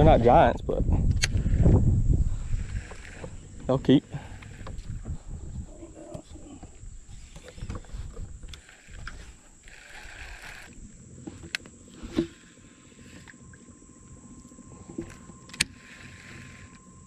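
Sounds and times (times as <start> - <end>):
low uneven rumble: 0.0 - 17.0
fishing reel spool whirring: 1.1 - 17.0.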